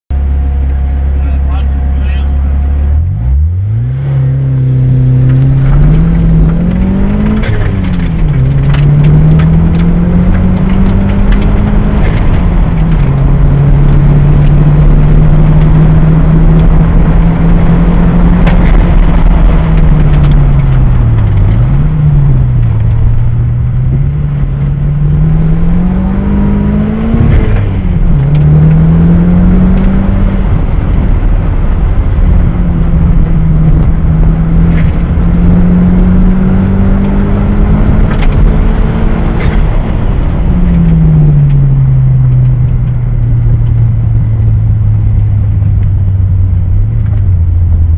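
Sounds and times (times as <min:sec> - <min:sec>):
car engine accelerating through gears: 0:00.1 - 0:47.9.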